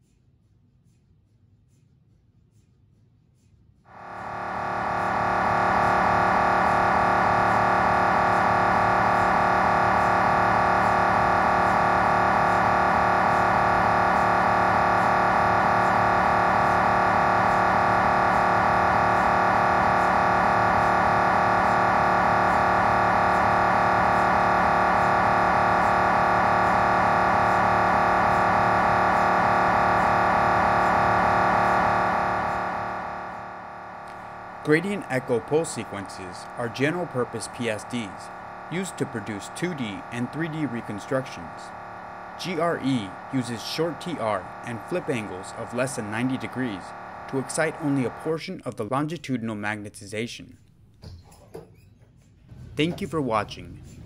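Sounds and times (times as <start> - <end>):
mri scanner pulsing buzz: 3.9 - 49.8.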